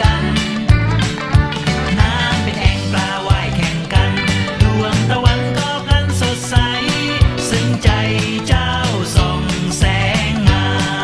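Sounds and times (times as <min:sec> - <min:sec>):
music with beat and bass line: 0:00.0 - 0:11.0.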